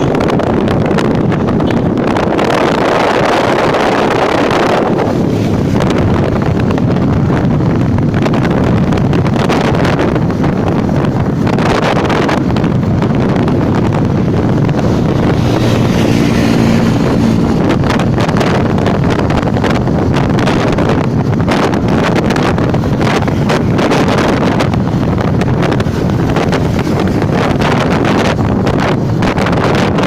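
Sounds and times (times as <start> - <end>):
low rumble: 0.0 - 30.0
wind buffeting microphone: 0.0 - 30.0.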